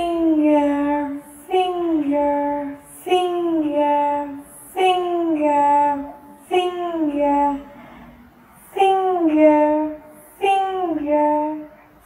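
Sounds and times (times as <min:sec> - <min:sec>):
child singing: 0:00.0 - 0:07.7, 0:08.8 - 0:11.8.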